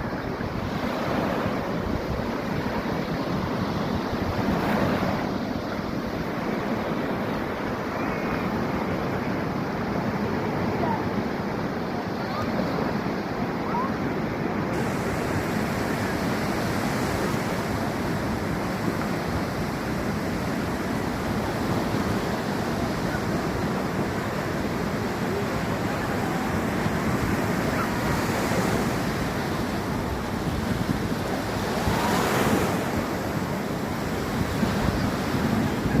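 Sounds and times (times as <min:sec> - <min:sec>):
waves breaking on beach: 0:00.0 - 0:36.0.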